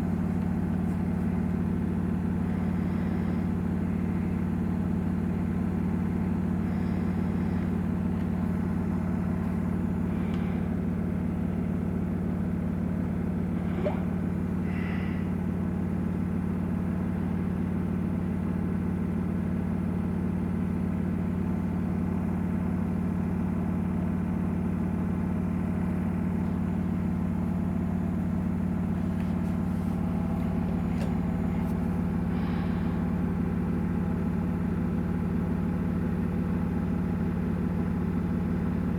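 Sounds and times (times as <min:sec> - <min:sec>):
low motor hum: 0:00.0 - 0:38.9.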